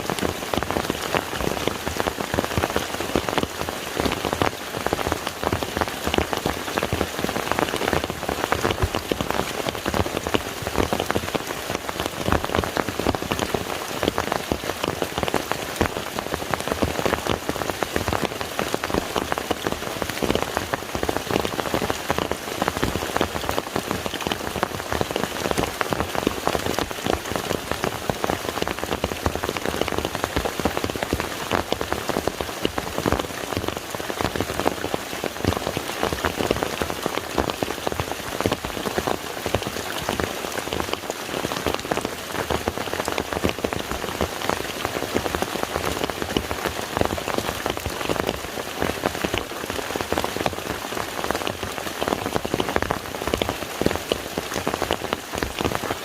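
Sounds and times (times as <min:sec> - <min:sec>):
rain falling on a lake: 0:00.0 - 0:56.0.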